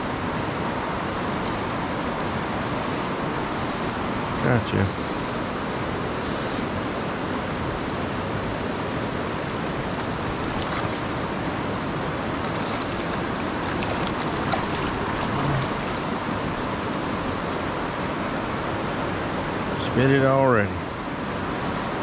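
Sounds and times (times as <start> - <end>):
river water flowing over rocks: 0.0 - 22.0.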